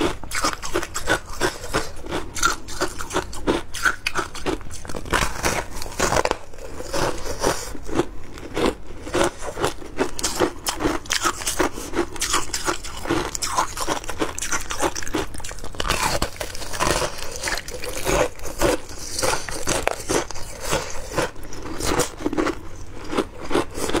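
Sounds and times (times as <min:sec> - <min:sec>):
ice crunching between teeth: 0:00.0 - 0:24.0.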